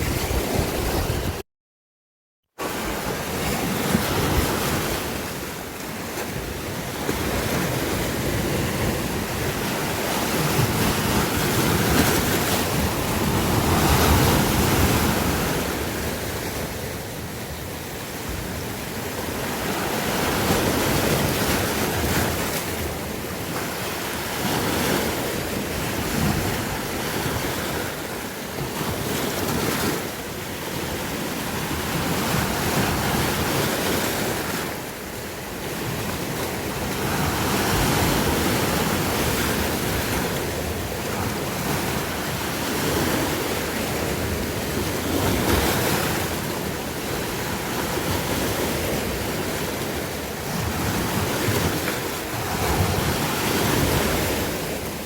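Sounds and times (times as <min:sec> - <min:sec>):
sea waves breaking on shore: 0:00.0 - 0:01.4, 0:02.6 - 0:55.0.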